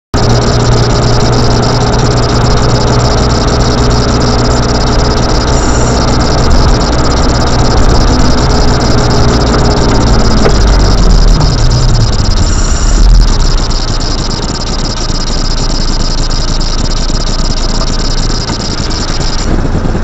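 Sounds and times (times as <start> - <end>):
car engine and tyre drone: 0.2 - 20.0
low hum: 0.2 - 20.0.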